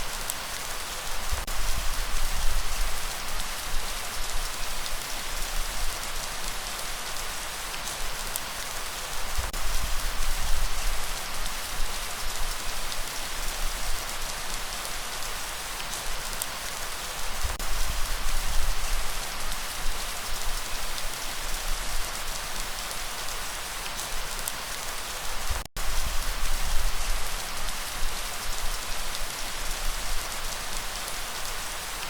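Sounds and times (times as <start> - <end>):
light rain falling: 0.0 - 32.0.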